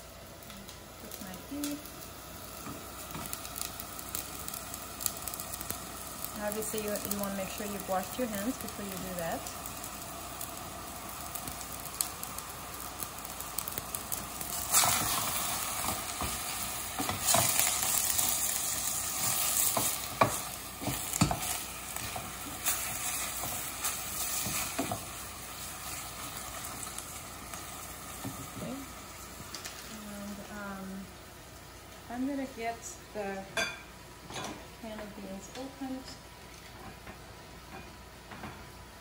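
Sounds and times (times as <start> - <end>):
meat sizzling in a pan: 0.0 - 39.0.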